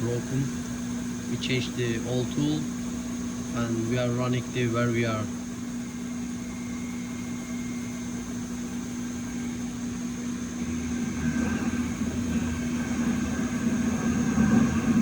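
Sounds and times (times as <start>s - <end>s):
faint high whine: 0.0s - 15.0s
milling machine hum: 0.0s - 15.0s.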